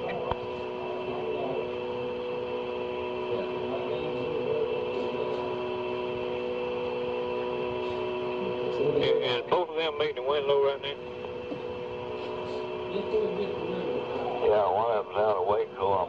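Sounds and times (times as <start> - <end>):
telephone line tone hum: 0.0 - 16.0.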